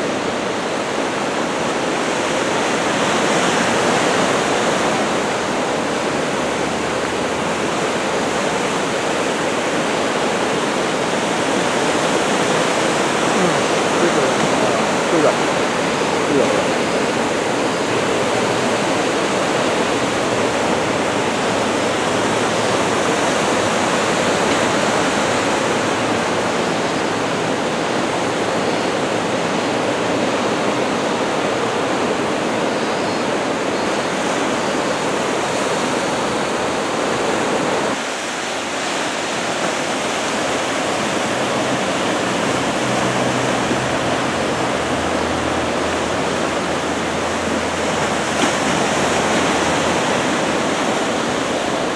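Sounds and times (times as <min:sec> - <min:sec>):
ocean surf rushing: 0:00.0 - 0:51.9.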